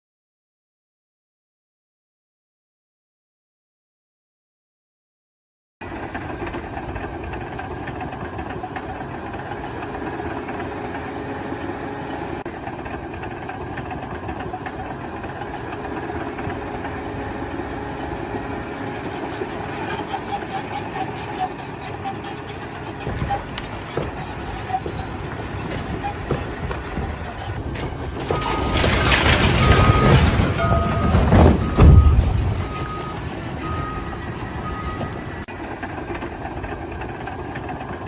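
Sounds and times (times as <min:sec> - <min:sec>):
engine running steadily: 0:05.8 - 0:38.0.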